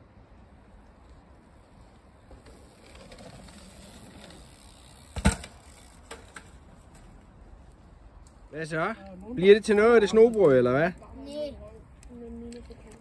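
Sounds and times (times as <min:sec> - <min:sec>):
bike tyres rolling on dirt: 0:00.0 - 0:11.0.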